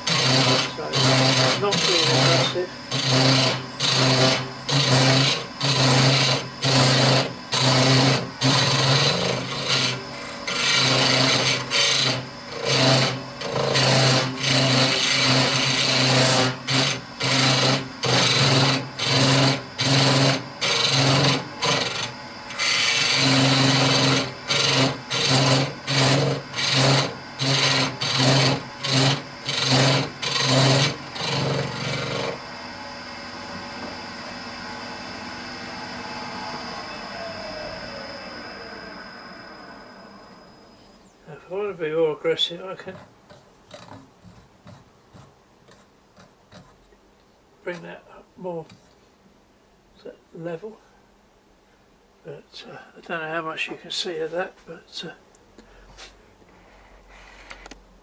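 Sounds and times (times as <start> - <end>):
cutter scraping spinning wood: 0.0 - 46.9.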